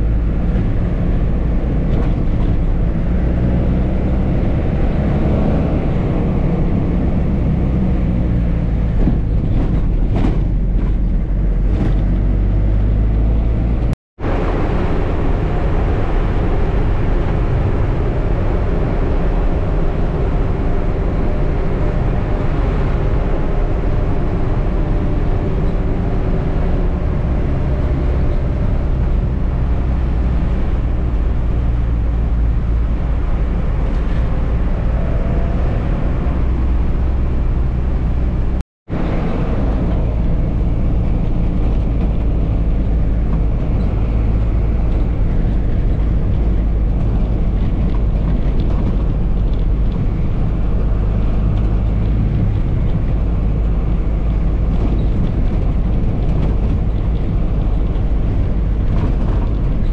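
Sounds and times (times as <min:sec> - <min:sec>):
bus diesel engine running: 0:00.0 - 0:59.9
road rumble: 0:00.0 - 0:59.9.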